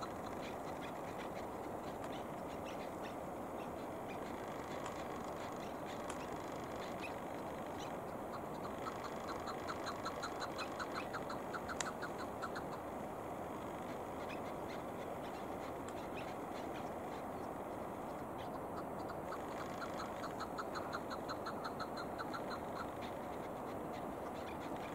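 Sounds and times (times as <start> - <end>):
partridge calling: 0.0 - 13.0, 13.6 - 24.9
steady background noise: 0.0 - 24.9.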